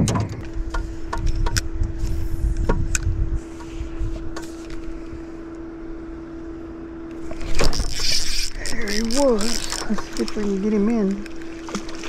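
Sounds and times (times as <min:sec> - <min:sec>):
small electric motor humming: 0:00.5 - 0:12.0.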